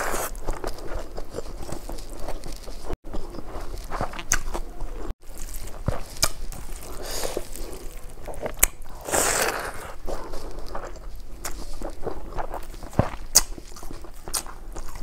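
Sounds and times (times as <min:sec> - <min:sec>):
chewing and lip smacking: 0:00.0 - 0:15.0.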